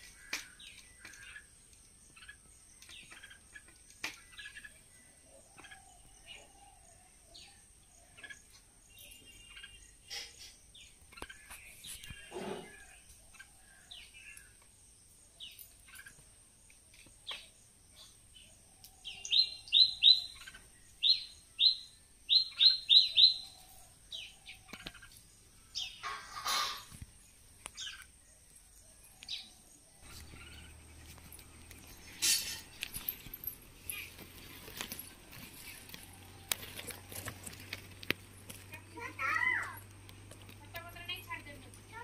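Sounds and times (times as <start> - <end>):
small bird chirping: 0.0 - 42.0.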